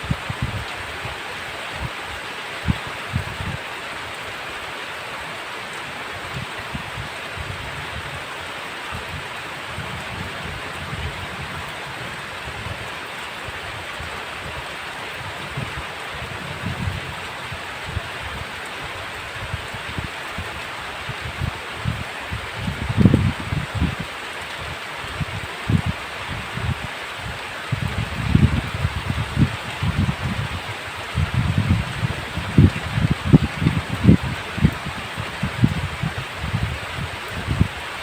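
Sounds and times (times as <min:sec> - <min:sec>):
heavy rain: 0:00.0 - 0:38.0.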